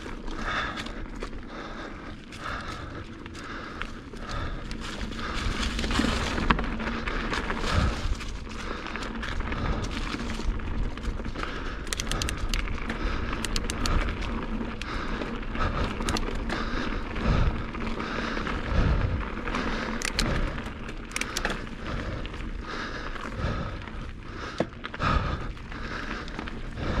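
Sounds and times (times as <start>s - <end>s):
bike clicks and rattles: 0.0s - 27.0s
bike tyres rumbling on trail: 0.0s - 27.0s.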